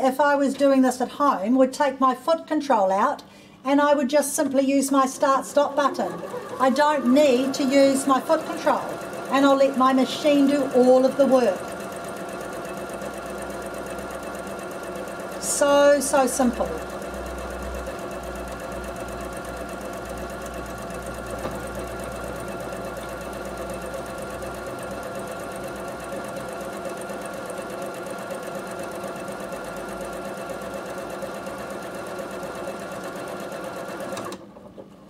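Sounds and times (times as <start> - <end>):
sewing machine stitching: 5.0 - 34.7.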